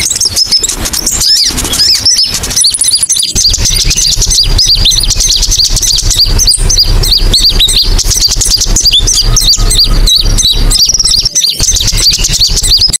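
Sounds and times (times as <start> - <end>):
bird lure chirps: 0.0 - 13.0
steady low hum: 0.0 - 13.0.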